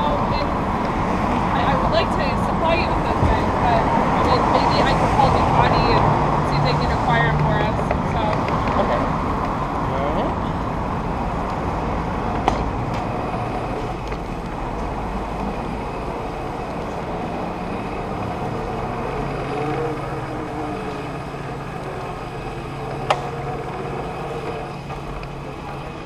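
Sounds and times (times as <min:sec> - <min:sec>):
electric motorcycle low rumble: 0:00.0 - 0:26.0.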